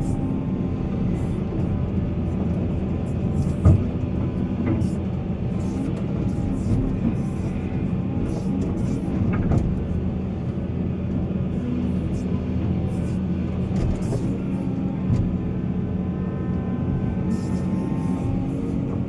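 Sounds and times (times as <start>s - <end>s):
diesel machinery engine drone: 0.0s - 19.0s.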